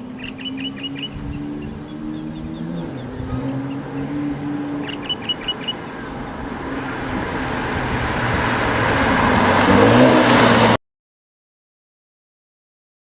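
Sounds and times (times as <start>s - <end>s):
car engine and tyre noise: 0.0s - 10.8s.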